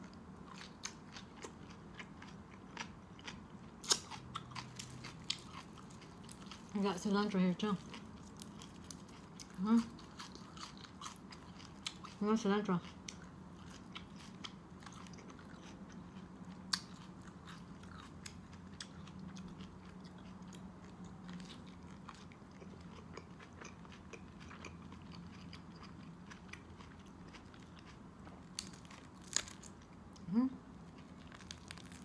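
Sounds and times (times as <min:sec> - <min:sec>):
person chewing food: 0:00.0 - 0:06.7, 0:07.7 - 0:12.2, 0:12.8 - 0:32.0
faint low hum: 0:00.0 - 0:32.0.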